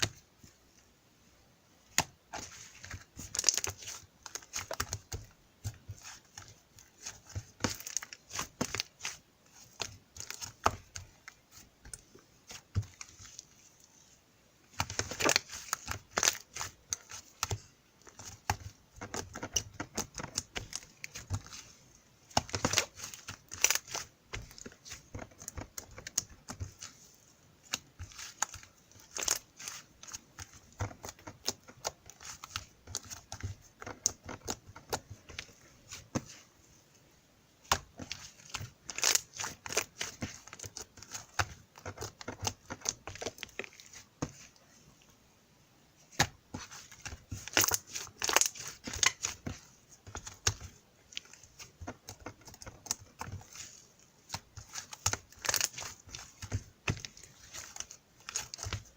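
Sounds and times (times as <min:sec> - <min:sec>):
crinkling and crackling: 0:01.8 - 0:45.2, 0:46.0 - 0:58.9.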